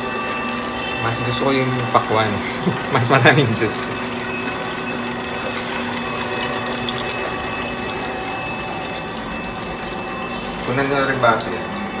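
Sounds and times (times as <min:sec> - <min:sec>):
juicer motor hum: 0:00.0 - 0:12.0.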